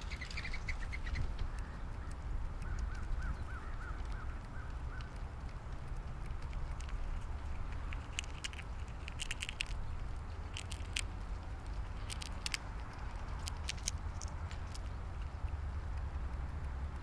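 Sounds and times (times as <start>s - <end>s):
squirrel cracking nut shell: 0.0s - 17.0s
steady low rumble: 0.0s - 17.0s.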